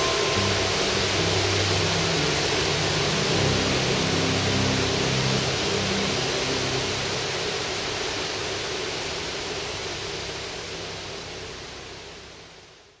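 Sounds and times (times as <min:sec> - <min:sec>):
water rushing from dam spillway: 0:00.0 - 0:13.0.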